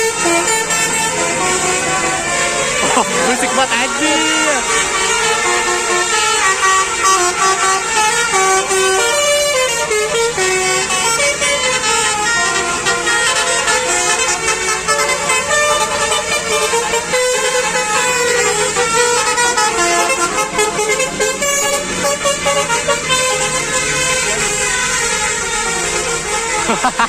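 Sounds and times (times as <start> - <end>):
multi-tone bus horns playing melody: 0.0 - 27.0.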